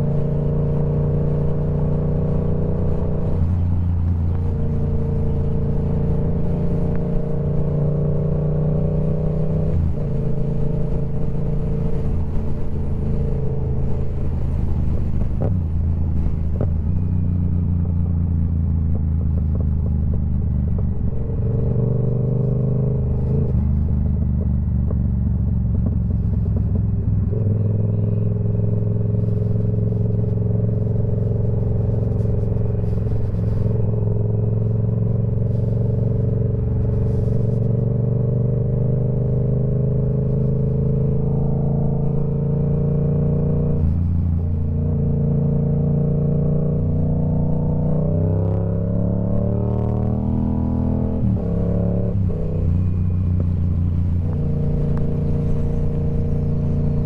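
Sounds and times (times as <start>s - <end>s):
motorcycle engine running: 0.0s - 42.4s, 48.7s - 57.0s.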